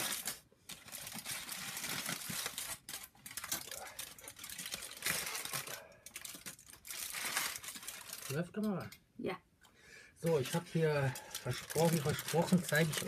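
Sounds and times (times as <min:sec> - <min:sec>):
aluminium foil crinkling: 0:00.0 - 0:08.9, 0:10.2 - 0:13.0.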